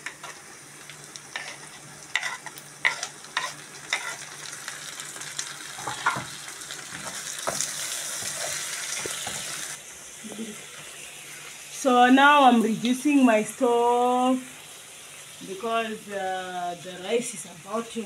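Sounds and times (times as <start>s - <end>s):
meat and onions sizzling in pot: 0.0s - 18.0s.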